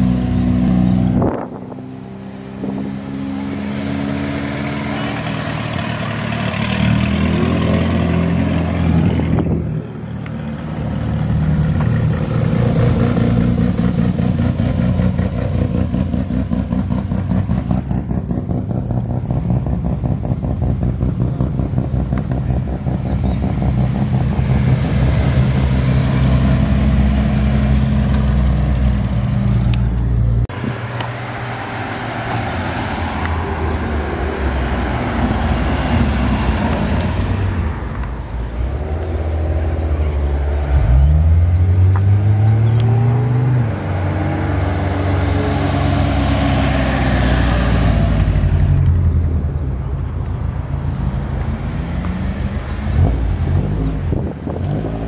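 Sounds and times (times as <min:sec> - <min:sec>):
car engines revving and passing: 0:00.0 - 0:55.0.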